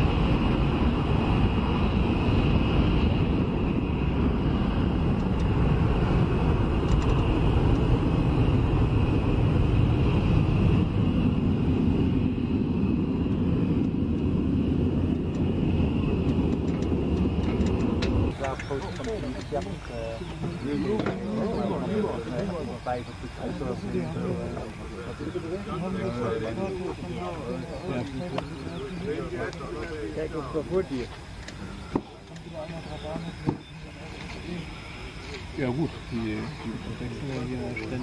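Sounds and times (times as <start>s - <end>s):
jet engines rumbling: 0.0s - 38.0s.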